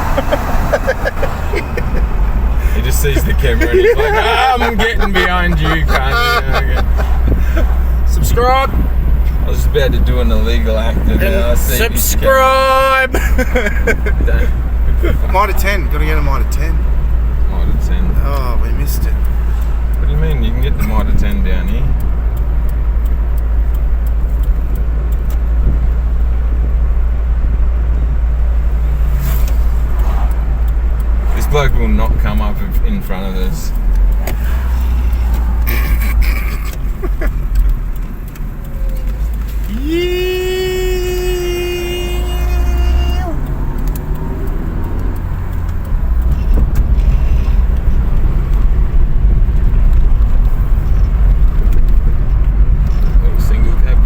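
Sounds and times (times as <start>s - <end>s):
low engine hum: 0.0s - 54.0s
road noise in car cabin: 0.0s - 54.0s.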